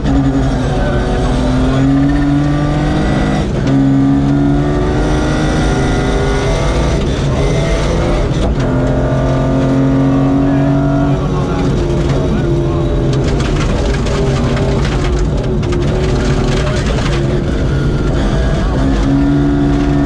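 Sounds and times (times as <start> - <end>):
rally car engine accelerating: 0.0 - 20.0.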